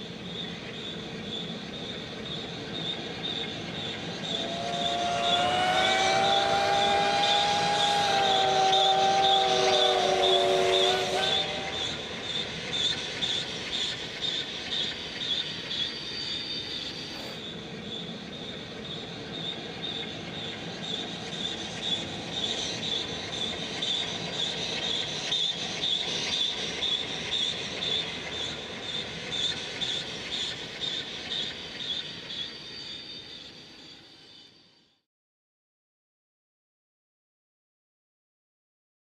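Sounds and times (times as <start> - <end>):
steam train running: 0.0 - 34.9.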